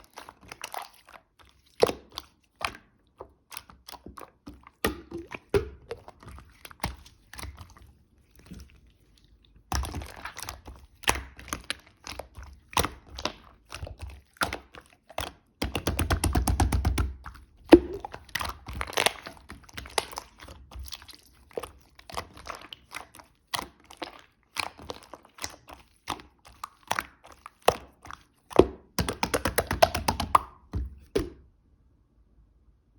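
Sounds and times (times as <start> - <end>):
slime squished by hand: 0.0 - 31.5.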